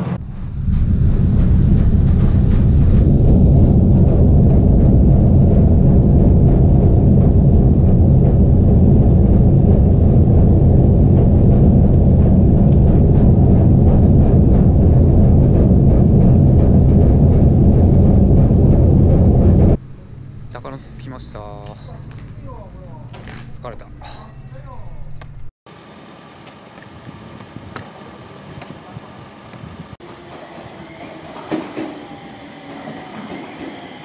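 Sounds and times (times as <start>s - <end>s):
train rumble inside carriage: 0.0s - 25.5s, 27.3s - 34.0s.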